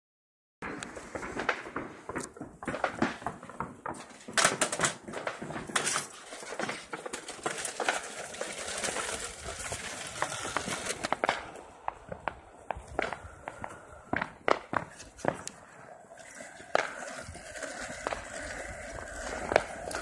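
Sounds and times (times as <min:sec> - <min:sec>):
firecrackers cracking and popping: 0:00.6 - 0:20.0.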